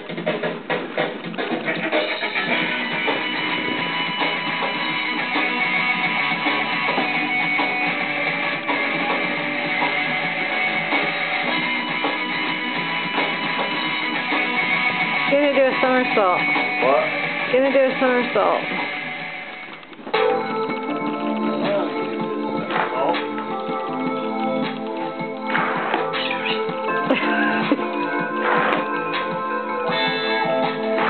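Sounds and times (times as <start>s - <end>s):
background song: 2.0s - 31.0s.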